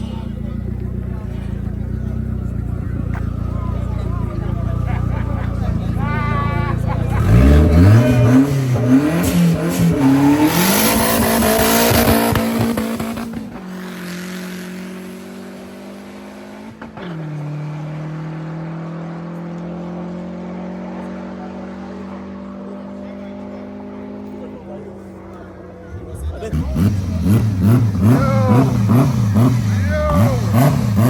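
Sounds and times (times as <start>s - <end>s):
race car engine revving: 0.0s - 31.0s
steady engine hum: 0.0s - 31.0s.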